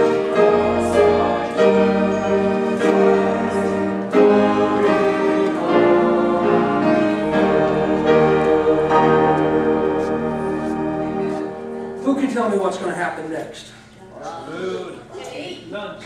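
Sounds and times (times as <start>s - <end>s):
slow hymn music with held chords: 0.0s - 13.5s.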